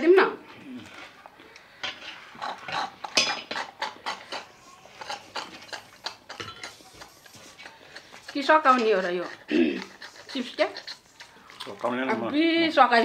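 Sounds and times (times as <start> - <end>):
wet eating and sipping: 0.4 - 13.0.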